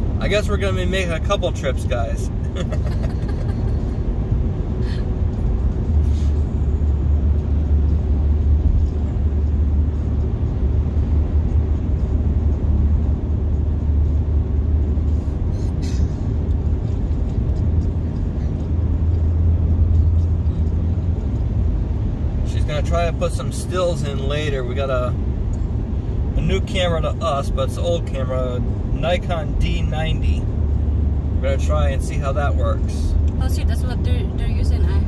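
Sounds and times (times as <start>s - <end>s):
road and tyre noise inside car: 0.0s - 35.0s.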